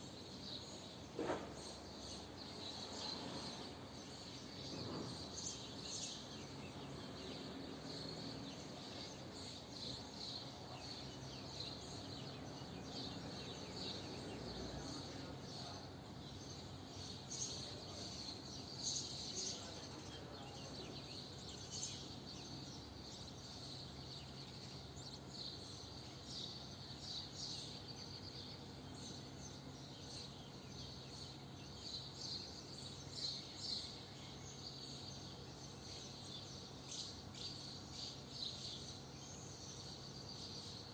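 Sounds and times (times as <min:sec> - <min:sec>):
swallows twittering: 0:00.0 - 0:40.9.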